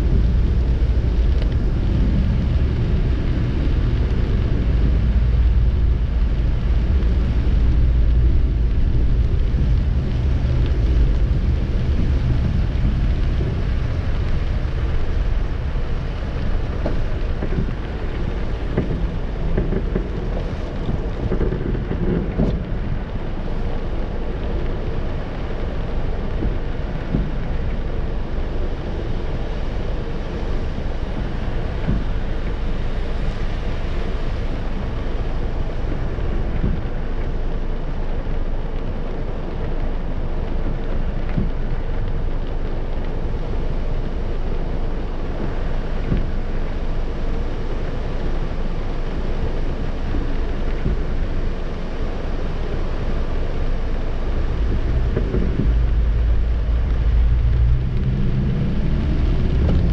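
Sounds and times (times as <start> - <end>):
low rumble of car and traffic: 0.0 - 59.9
rain on car windscreen: 0.0 - 59.9.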